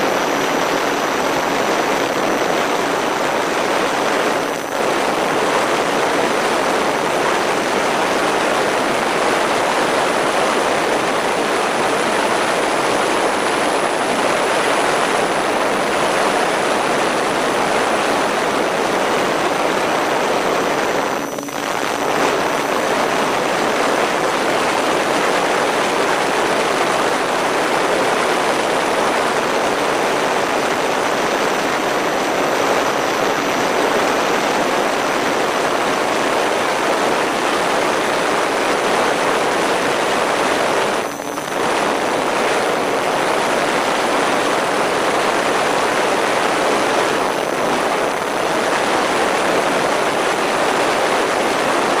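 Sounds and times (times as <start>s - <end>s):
faint high whine: 0.0s - 52.0s
model plane motors and propellers: 0.1s - 52.0s.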